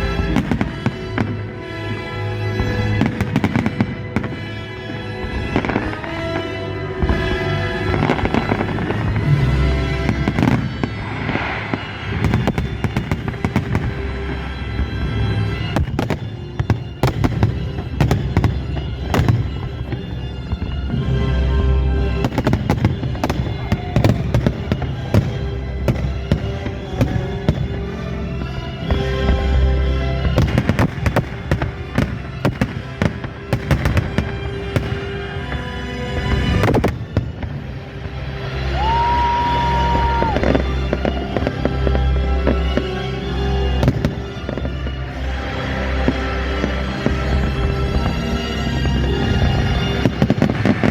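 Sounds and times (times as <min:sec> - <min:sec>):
fireworks bangs and crackling: 0:00.0 - 0:50.9
loud music: 0:00.0 - 0:50.9.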